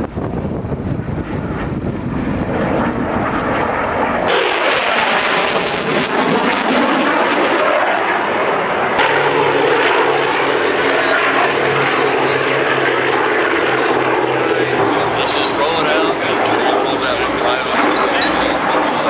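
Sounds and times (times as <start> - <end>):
propeller airplane engine drone: 0.0 - 19.0.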